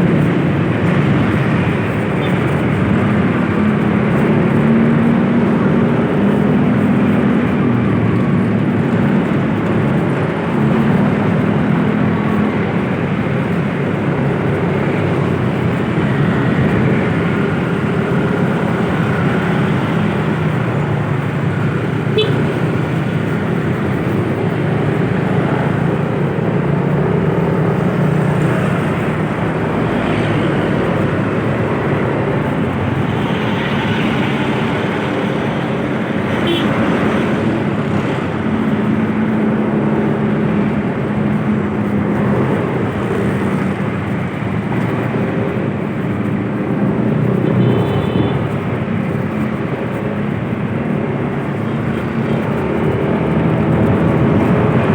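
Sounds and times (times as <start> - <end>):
engine running: 0.0 - 48.1
tyre and road noise: 0.0 - 54.9.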